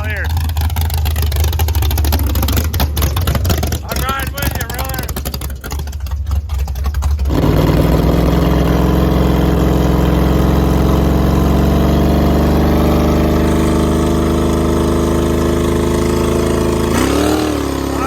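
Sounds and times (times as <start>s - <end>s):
loud engine revving: 0.0s - 18.0s.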